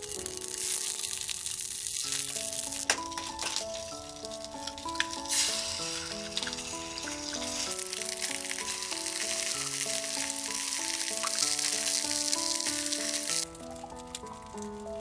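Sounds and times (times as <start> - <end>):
steady hiss with clicks: 0.0 - 14.7
gentle background music: 0.0 - 15.0.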